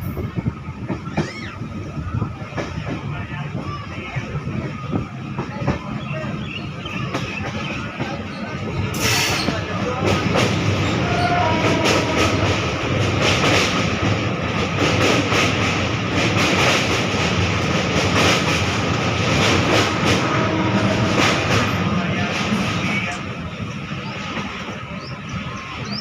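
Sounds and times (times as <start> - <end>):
train wheels clacking on rails: 0.0 - 26.0.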